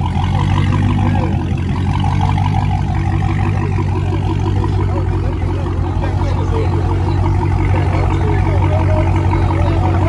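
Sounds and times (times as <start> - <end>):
car engine droning: 0.0 - 10.0
faint voices: 0.0 - 10.0.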